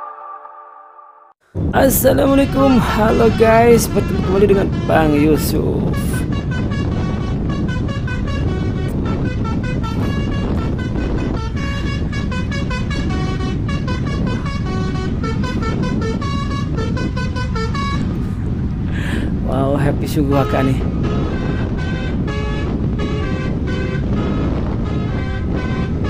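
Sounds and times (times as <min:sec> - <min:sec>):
moving truck rumble: 0:01.5 - 0:26.0
musical truck horn tune: 0:02.3 - 0:18.4, 0:20.4 - 0:26.0.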